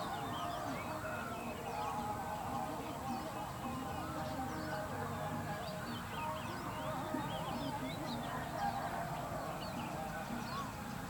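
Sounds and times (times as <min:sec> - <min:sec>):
chorus of birds calling: 0:00.0 - 0:11.0.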